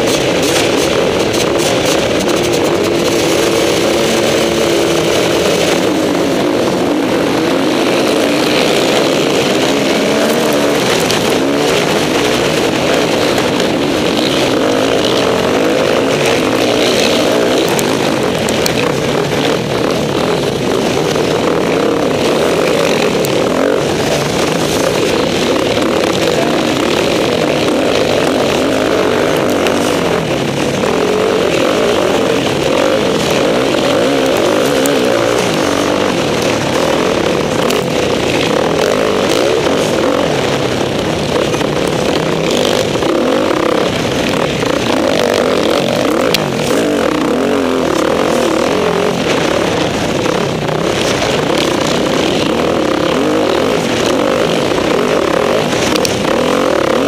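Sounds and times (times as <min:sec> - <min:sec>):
dirt bikes racing: 0:00.0 - 0:57.0
motocross bike engine running hard: 0:00.0 - 0:57.0.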